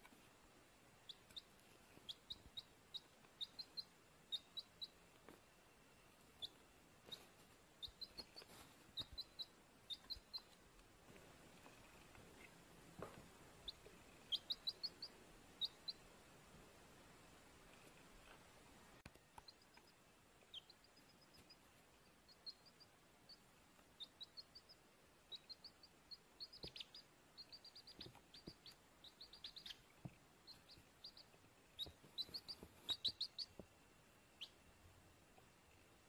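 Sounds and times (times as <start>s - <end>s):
faint hiss: 0.0s - 36.0s
small bird chirping: 0.1s - 10.6s, 13.5s - 16.1s, 19.1s - 35.8s.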